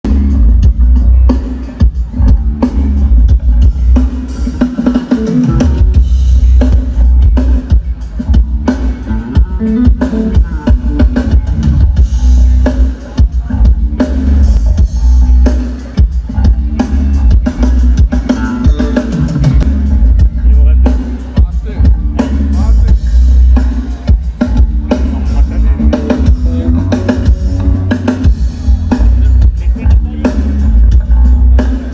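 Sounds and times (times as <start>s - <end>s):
heavy bass drum beat: 0.0s - 31.9s
live band playing loud: 0.0s - 31.9s.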